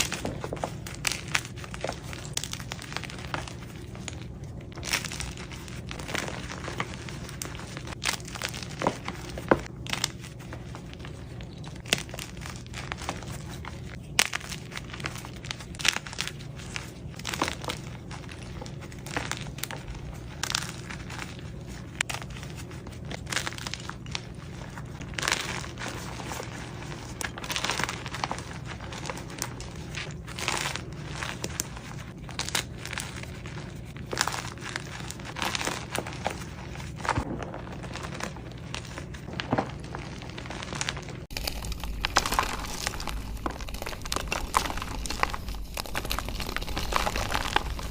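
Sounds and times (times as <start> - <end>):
chalk crunching and crackling: 0.0 - 47.9.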